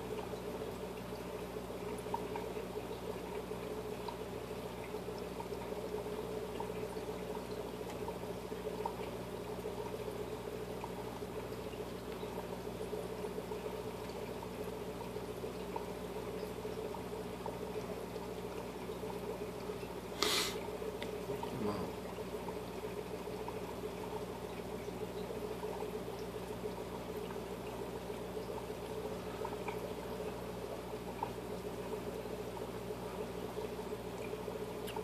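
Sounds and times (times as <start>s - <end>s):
water trickling and bubbling: 0.0s - 35.0s.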